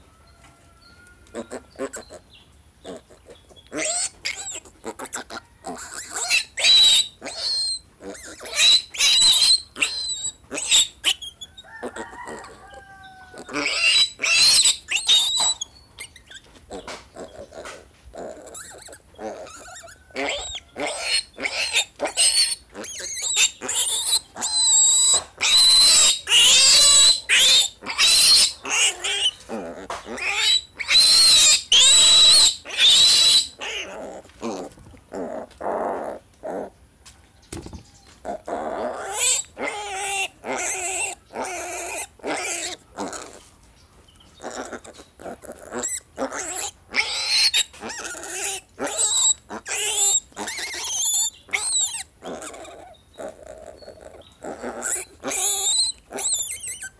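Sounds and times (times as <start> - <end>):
piglet screaming: 2.9 - 12.6, 13.3 - 16.3, 18.2 - 36.7, 38.3 - 43.4, 44.4 - 56.9.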